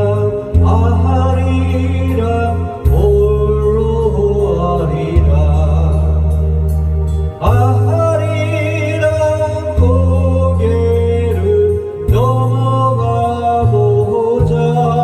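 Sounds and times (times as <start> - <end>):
pop song with gliding melody: 0.0 - 15.0.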